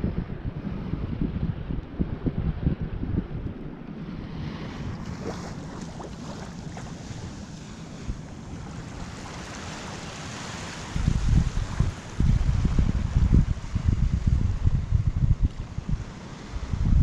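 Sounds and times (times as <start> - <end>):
wind buffeting microphone: 0.0 - 17.0
surf washing on beach: 0.2 - 17.0.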